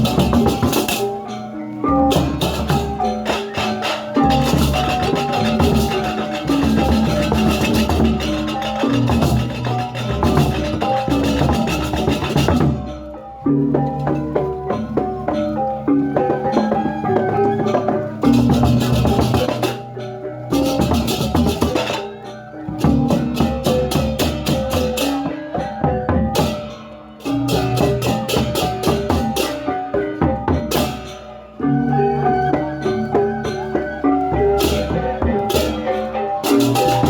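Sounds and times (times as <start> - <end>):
drums: 0.0 - 37.0
metal mallet instruments ringing: 0.0 - 37.0.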